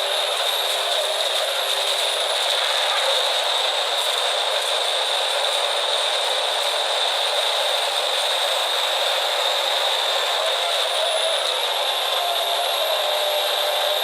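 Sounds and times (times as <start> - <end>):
high machine whine: 0.0 - 14.0
wood-processing machinery running: 0.0 - 14.0.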